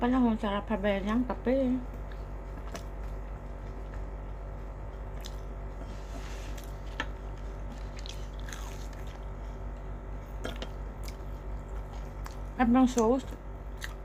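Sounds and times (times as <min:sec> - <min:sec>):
steady low hum: 0:00.0 - 0:14.0
crispy food being chewed: 0:01.9 - 0:14.0.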